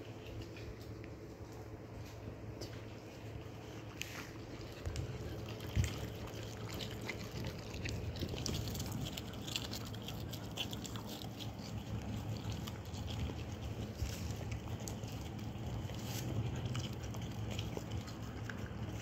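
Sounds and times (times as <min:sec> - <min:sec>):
dog chewing crunchy snack: 0:00.0 - 0:19.0.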